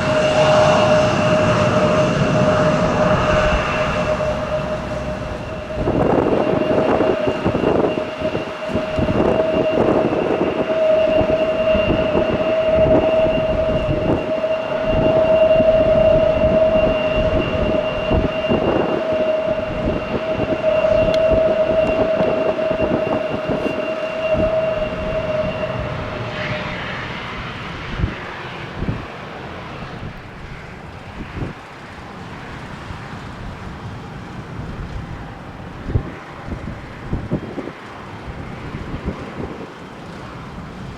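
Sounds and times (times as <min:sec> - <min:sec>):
jet engines whining: 0:00.0 - 0:40.9
jet rumble: 0:00.0 - 0:40.9
wind gusting on microphone: 0:00.0 - 0:40.9.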